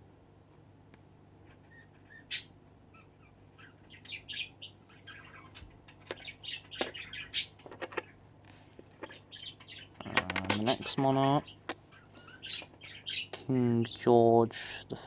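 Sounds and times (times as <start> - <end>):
bird chirping: 1.4 - 8.2, 9.0 - 14.4.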